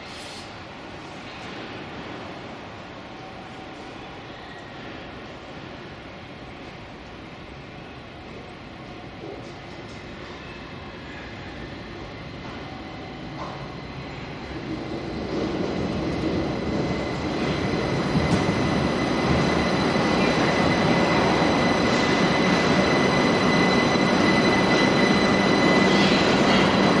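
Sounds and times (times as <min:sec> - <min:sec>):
maglev train rushing: 0:00.0 - 0:27.0.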